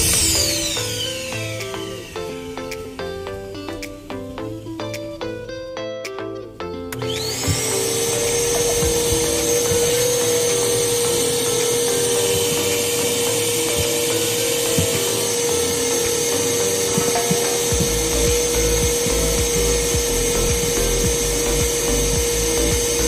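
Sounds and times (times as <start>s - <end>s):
vacuum cleaner motor whining: 0.0s - 4.9s, 6.9s - 23.0s.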